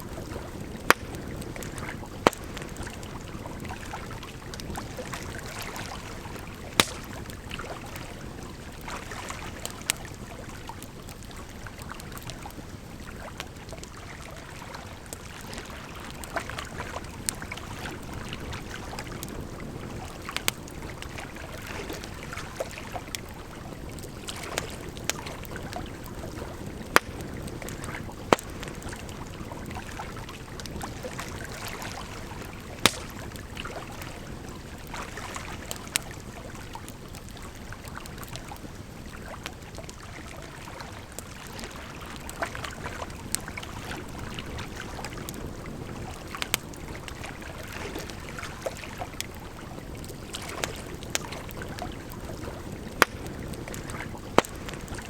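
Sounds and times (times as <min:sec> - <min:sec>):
campfire crackling and popping: 0:00.0 - 0:55.0
flowing water: 0:00.0 - 0:55.0.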